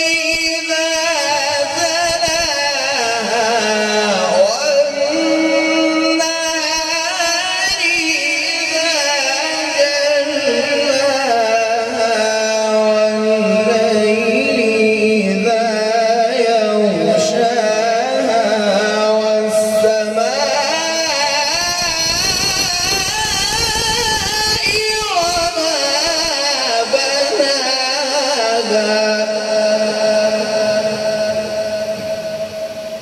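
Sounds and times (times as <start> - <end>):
man chanting melodically: 0.0 - 33.0.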